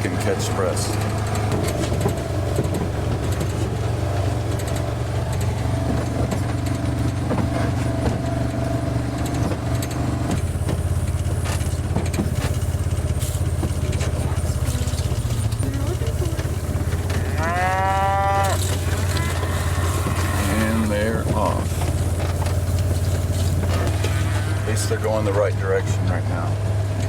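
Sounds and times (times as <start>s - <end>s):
light rattles: 0.0s - 17.6s, 18.4s - 26.4s
vehicle engine running: 0.0s - 27.0s.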